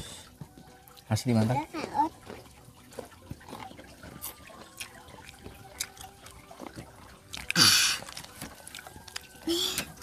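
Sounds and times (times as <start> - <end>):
wet chewing and smacking: 0.2 - 10.0.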